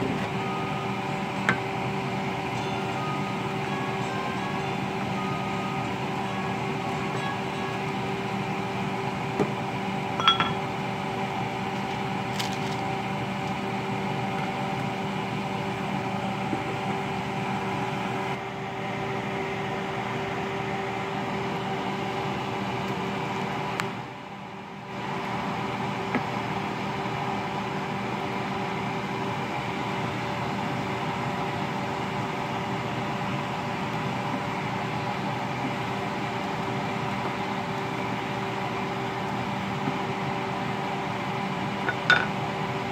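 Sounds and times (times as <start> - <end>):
appliance fan motor hum: 0.0 - 42.9.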